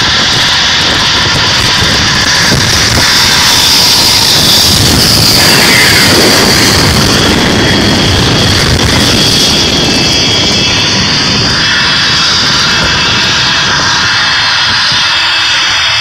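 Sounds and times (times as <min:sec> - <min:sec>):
road noise: 0:00.0 - 0:16.0
wind rushing: 0:00.0 - 0:16.0.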